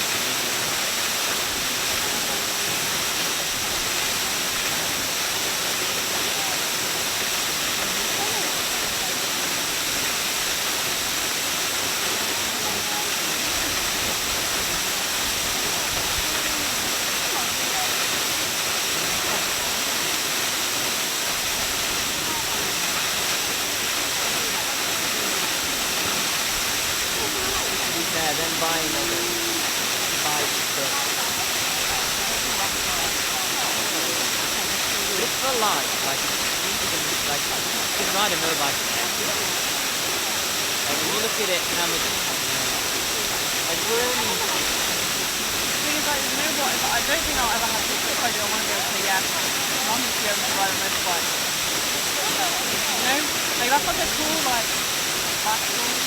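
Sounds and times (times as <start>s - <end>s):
faint voices: 0.0s - 56.0s
waterfall rushing: 0.0s - 56.0s.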